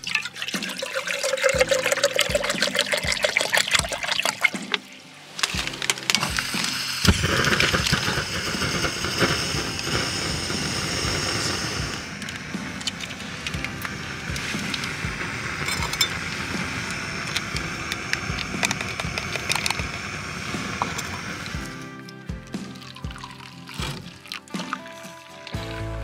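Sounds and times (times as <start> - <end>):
water pouring into a metal pot: 0.0 - 25.7
background music: 0.0 - 26.0
camp stove hissing: 0.0 - 26.0.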